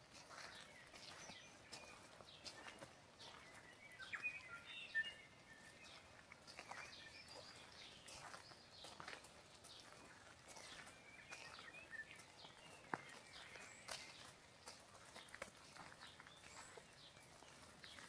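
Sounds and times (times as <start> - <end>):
faint birdsong chirps: 0.0 - 18.0
soft footsteps: 0.0 - 18.0.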